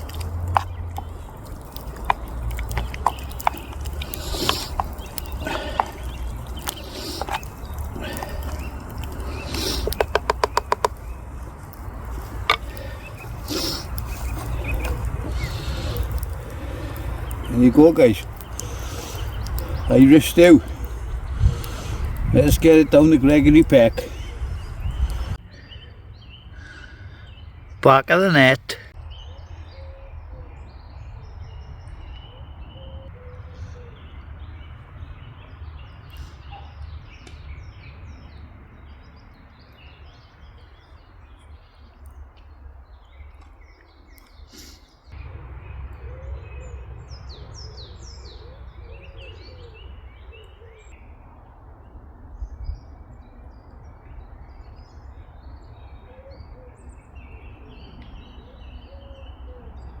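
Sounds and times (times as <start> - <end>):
small birds chirping: 0.0 - 60.0.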